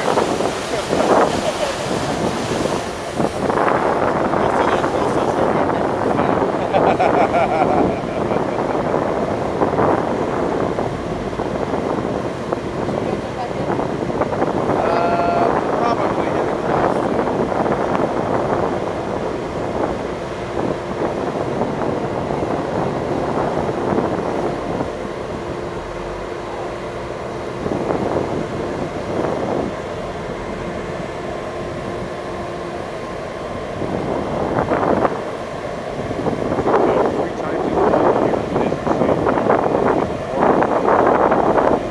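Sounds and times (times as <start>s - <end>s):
boat engine rumbling: 0.0s - 41.9s
water wash: 0.0s - 41.9s
wind buffeting microphone: 0.0s - 41.9s.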